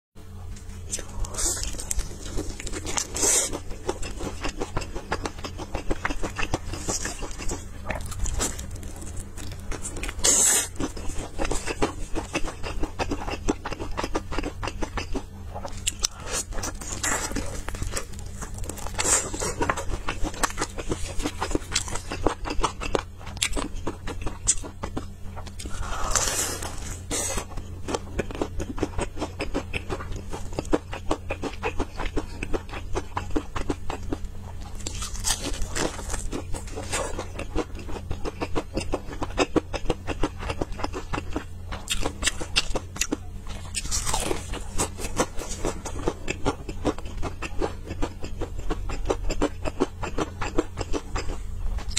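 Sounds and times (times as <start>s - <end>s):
crunchy chicken being chewed: 0.3s - 51.9s.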